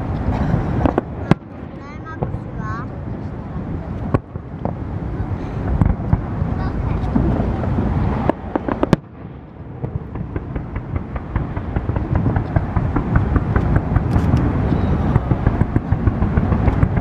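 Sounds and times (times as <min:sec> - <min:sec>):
fireworks bangs and crackles: 0:00.0 - 0:17.0
steady low rumble: 0:00.0 - 0:17.0.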